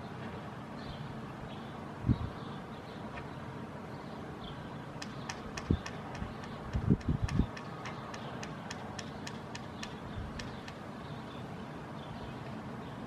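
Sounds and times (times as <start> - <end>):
sparrow chirping: 0.8 - 13.0.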